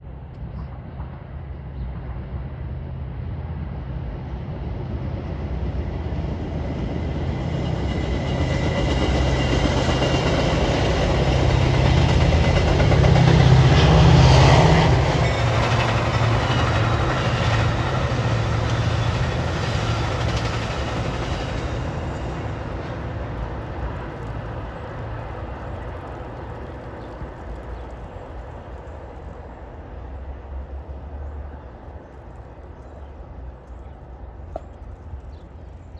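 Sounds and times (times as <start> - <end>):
train passing by: 0.0 - 35.9.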